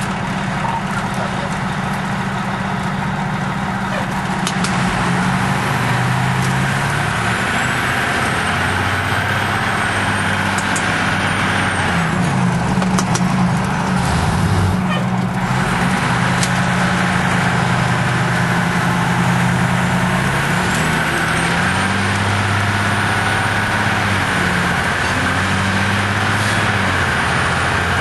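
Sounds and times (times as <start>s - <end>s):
fire engine diesel engine running: 0.0s - 28.0s
road and cab noise: 0.0s - 28.0s.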